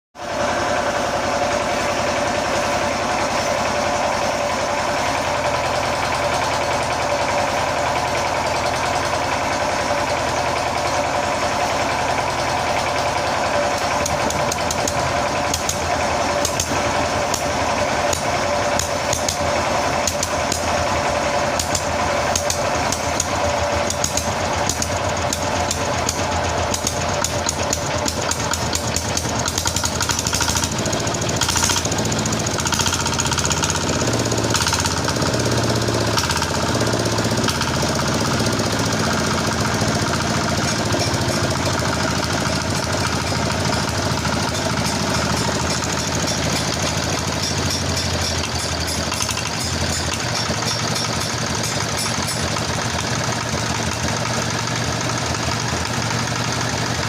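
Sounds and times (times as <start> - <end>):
diesel engine running: 0.2 - 57.0.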